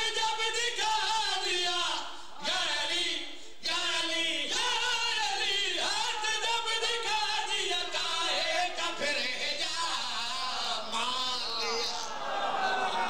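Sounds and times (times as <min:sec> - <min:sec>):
men singing a devotional chant: 0:00.0 - 0:13.0.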